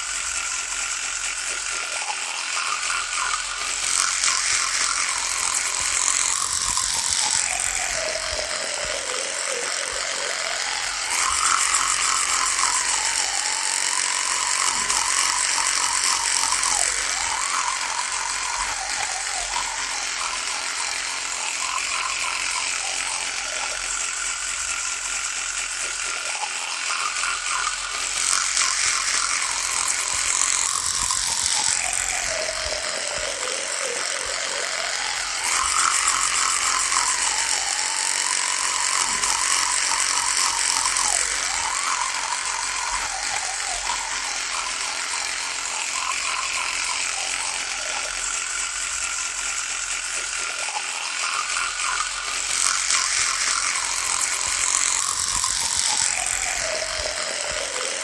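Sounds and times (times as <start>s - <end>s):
electric toothbrush buzzing: 0.0s - 58.0s.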